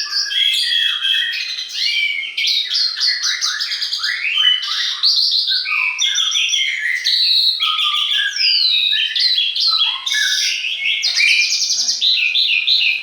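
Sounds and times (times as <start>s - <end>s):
songbirds chorus: 0.0s - 13.0s.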